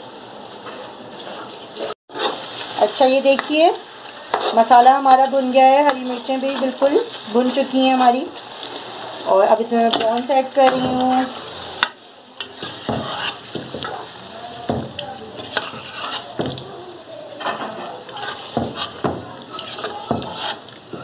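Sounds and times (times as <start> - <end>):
prawns sizzling in oil: 0.0 - 21.0
spatula scraping a pan: 2.1 - 16.6, 17.4 - 21.0.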